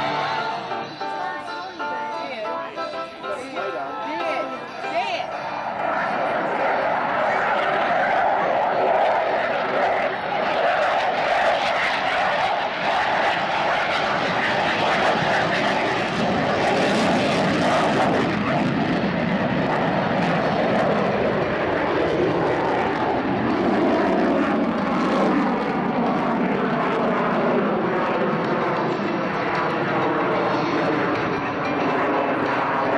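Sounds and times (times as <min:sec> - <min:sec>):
airplane engine roar: 0:00.0 - 0:32.9.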